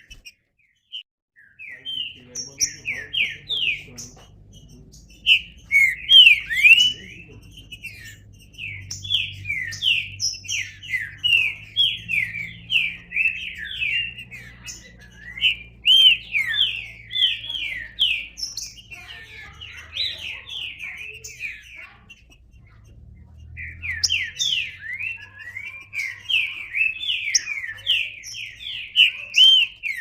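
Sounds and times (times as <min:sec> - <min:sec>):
bird singing whistled notes: 0:00.0 - 0:30.0.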